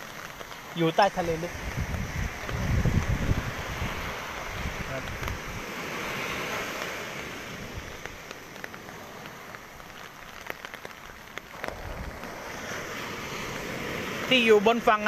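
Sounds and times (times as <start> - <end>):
light rain hiss: 0.0 - 15.0
raindrops ticking close by: 0.0 - 15.0.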